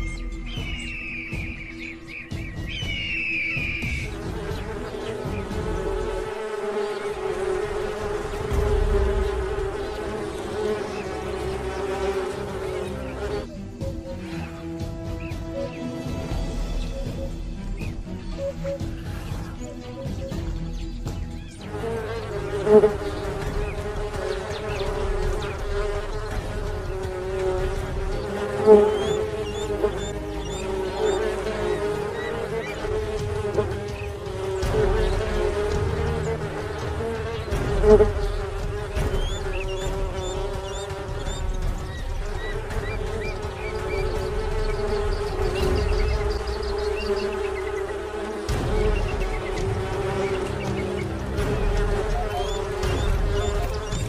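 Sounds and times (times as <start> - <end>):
wasps droning buzz: 0.0 - 54.0.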